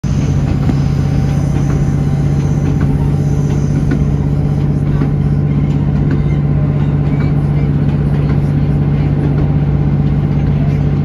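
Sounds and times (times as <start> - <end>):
low train engine drone: 0.0 - 11.0.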